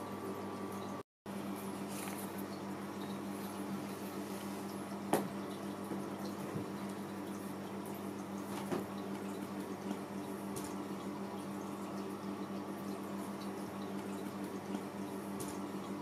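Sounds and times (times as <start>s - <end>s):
electrical hum: 0.0s - 16.0s
faint water trickling: 0.0s - 16.0s.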